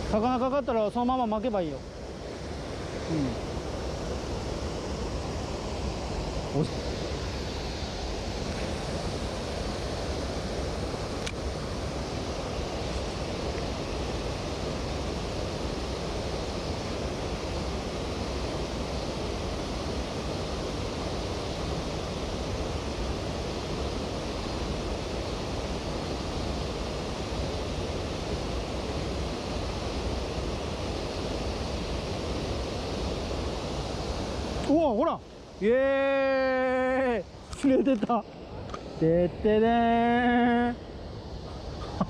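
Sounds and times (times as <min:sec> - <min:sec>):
mountain stream rushing: 0:00.0 - 0:42.0.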